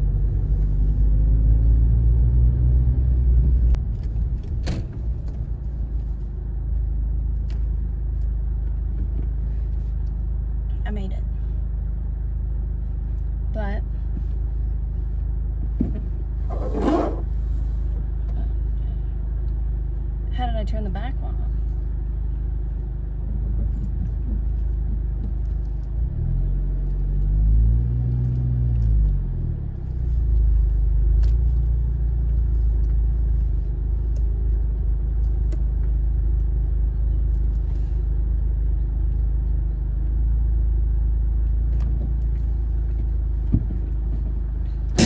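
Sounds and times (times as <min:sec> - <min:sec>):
car engine rumbling: 0:00.0 - 0:45.0.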